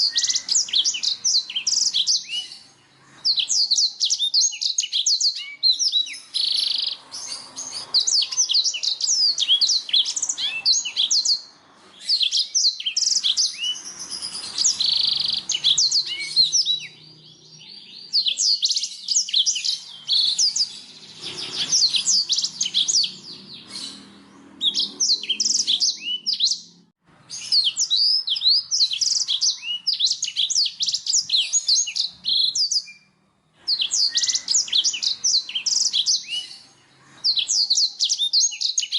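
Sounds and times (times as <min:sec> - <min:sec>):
canary singing chirps and trills: 0:00.0 - 0:38.9.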